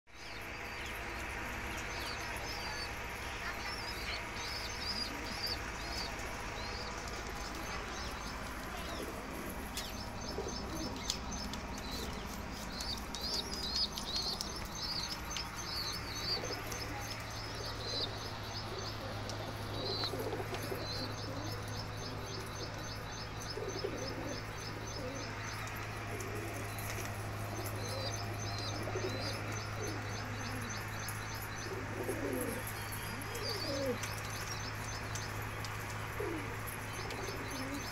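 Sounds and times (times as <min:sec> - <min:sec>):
birds chirping: 0:00.1 - 0:37.9
pigeons cooing: 0:04.3 - 0:37.9.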